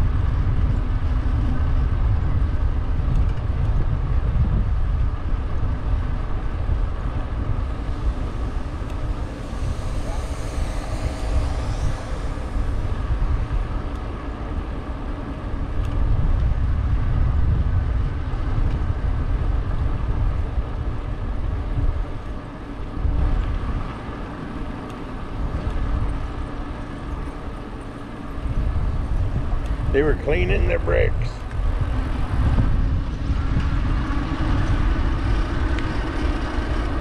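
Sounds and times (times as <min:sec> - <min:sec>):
bicycle tyres on paved road: 0:00.0 - 0:30.3, 0:31.2 - 0:37.0
faint steady hum: 0:00.0 - 0:37.0
wind buffeting the microphone: 0:00.0 - 0:37.0.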